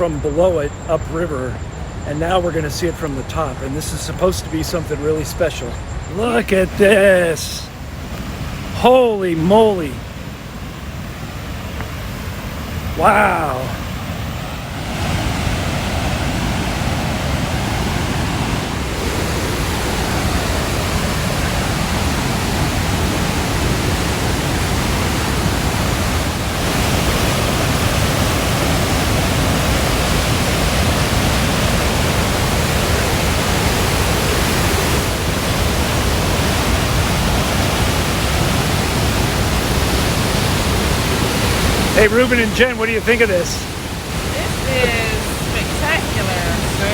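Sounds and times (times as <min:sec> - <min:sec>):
waterfall rushing: 0:06.1 - 0:46.9.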